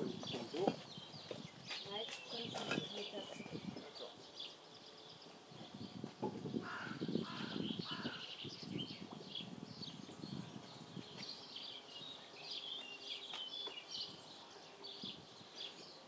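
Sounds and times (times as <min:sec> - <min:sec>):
birds chirping and singing: 0:00.0 - 0:16.0
harsh bird calls: 0:00.0 - 0:16.0.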